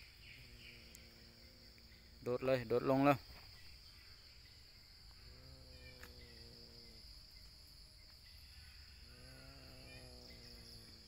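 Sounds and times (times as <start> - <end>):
crickets chirping: 0.0 - 11.0
faint bird chirps: 0.0 - 11.0.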